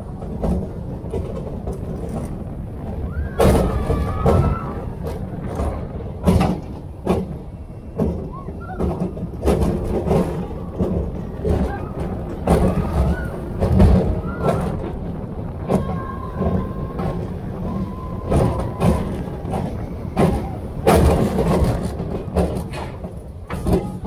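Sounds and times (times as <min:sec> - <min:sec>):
roller coaster rumbling on track: 0:00.0 - 0:24.0.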